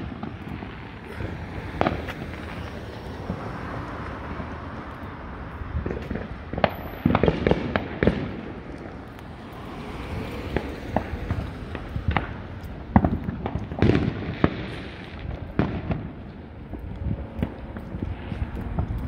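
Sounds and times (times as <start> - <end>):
fireworks bangs: 0.0 - 19.0
fireworks pops and crackles: 0.0 - 19.0.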